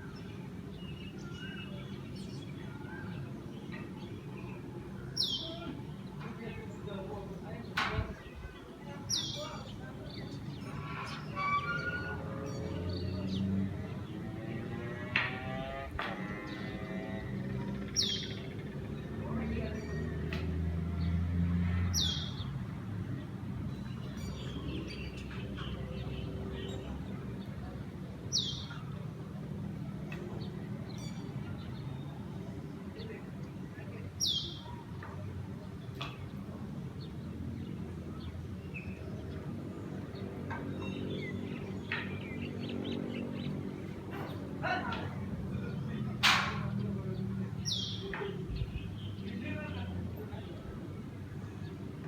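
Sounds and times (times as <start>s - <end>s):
low traffic hum: 0.0s - 52.0s
small birds chirping: 0.0s - 52.0s.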